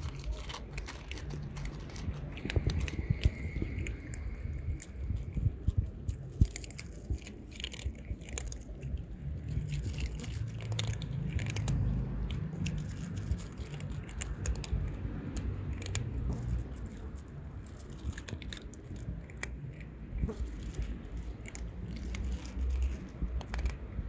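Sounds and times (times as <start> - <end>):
cats crunching dry kibble: 0.0 - 24.0
low background rumble: 0.0 - 24.0.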